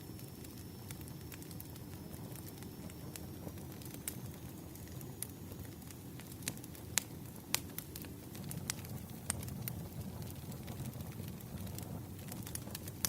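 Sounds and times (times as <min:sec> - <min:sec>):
campfire crackling: 0:00.0 - 0:13.0
burning wood pops: 0:00.2 - 0:13.0.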